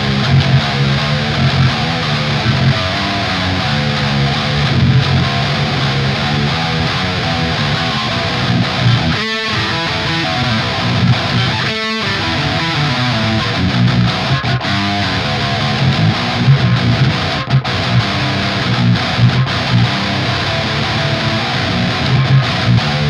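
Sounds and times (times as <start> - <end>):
distorted electric guitar riff: 0.0 - 23.0.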